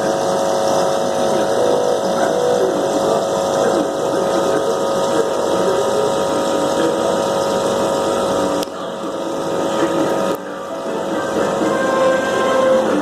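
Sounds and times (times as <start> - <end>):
aquarium pump humming: 0.0 - 13.0
water noise: 0.0 - 13.0.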